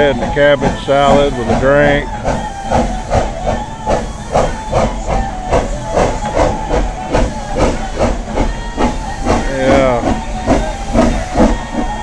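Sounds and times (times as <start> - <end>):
steam hiss: 0.0 - 12.0
steam locomotive exhaust chuffing: 0.0 - 12.0.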